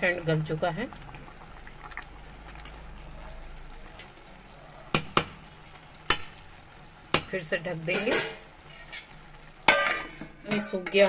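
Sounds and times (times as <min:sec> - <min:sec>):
rice simmering in a pot: 0:00.0 - 0:11.0.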